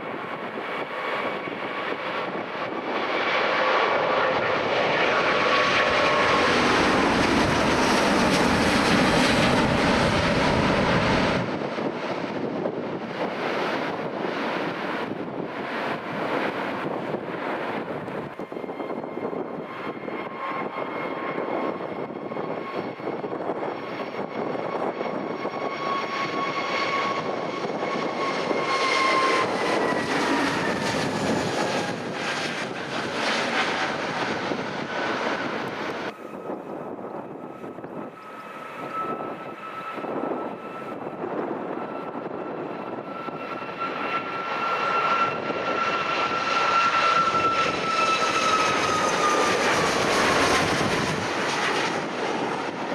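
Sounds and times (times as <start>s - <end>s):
airliner engines passing: 0.0s - 52.9s
second aircraft engine: 0.0s - 52.9s.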